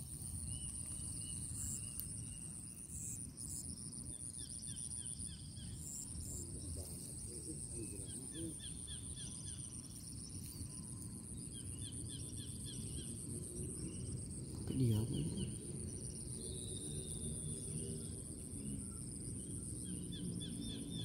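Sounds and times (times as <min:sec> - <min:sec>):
high insect whine: 0:00.0 - 0:21.0.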